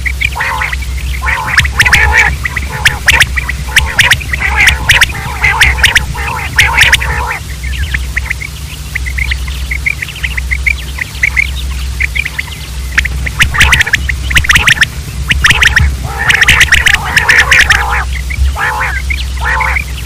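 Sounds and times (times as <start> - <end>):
quail calling in rapid bursts: 0.0 - 20.0
steady low hum: 0.0 - 20.0.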